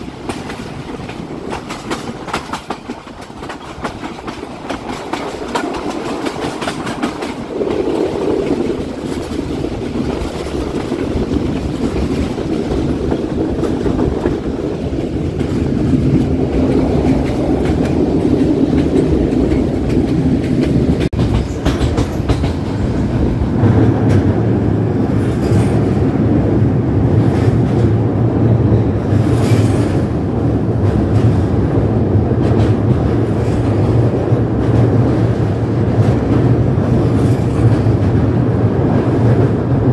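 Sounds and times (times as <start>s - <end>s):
train wheels clicking over joints: 0.0s - 26.3s, 27.0s - 39.9s
train rumbling on bridge: 0.0s - 39.9s.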